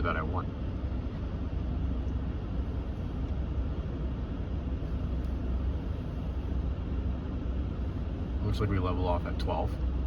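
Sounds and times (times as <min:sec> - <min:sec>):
blower fan air rushing: 0:00.0 - 0:10.0
engine idling hum: 0:00.0 - 0:10.0.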